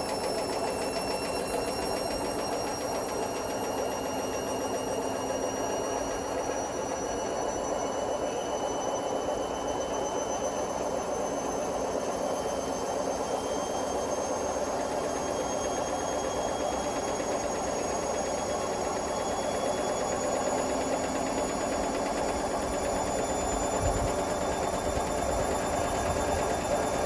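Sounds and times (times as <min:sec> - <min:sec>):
washing machine spinning: 0:00.0 - 0:08.6, 0:12.0 - 0:27.0
rising whine of spinning drum: 0:00.0 - 0:27.0.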